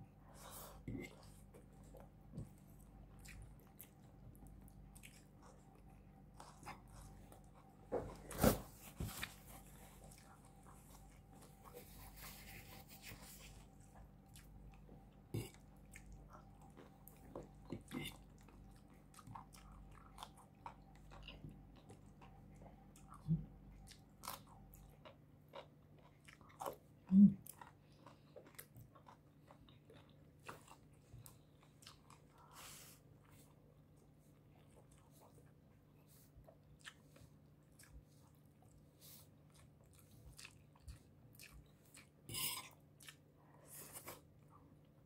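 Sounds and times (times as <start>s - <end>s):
person chewing food: 0.3s - 45.0s.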